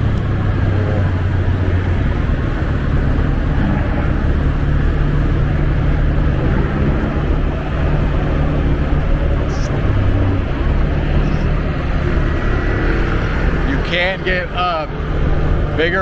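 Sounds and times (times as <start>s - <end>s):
scooter engine running: 0.0s - 15.8s.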